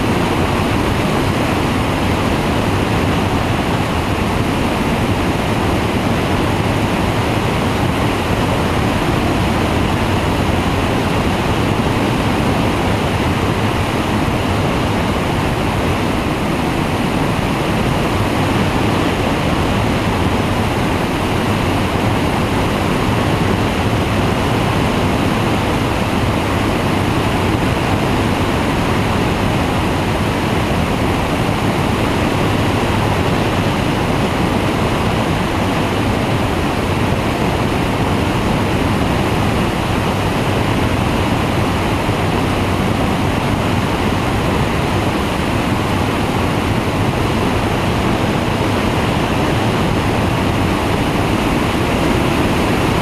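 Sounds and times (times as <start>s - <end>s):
engine and propeller drone: 0.0s - 53.0s
rush of airflow: 0.0s - 53.0s.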